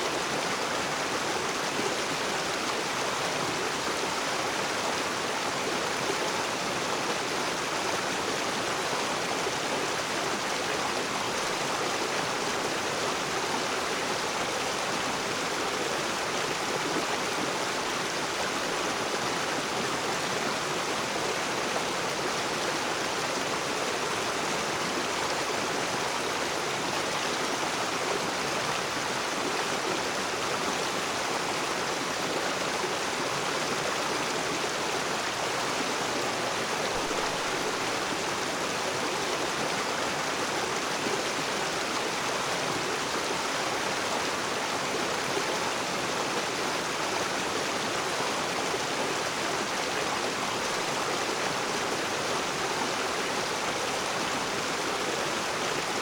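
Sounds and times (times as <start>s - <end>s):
river flowing over stones: 0.0s - 56.0s.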